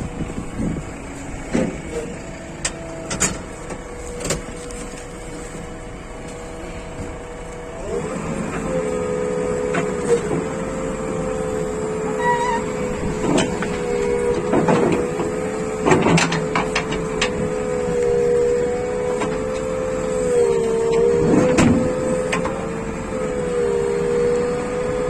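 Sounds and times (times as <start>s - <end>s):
backhoe loader whine: 0.0s - 25.0s.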